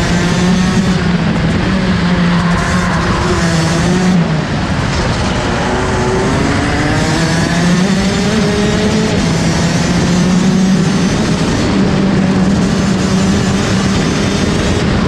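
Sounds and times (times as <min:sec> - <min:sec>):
kart two-stroke engine revving: 0:00.0 - 0:15.0.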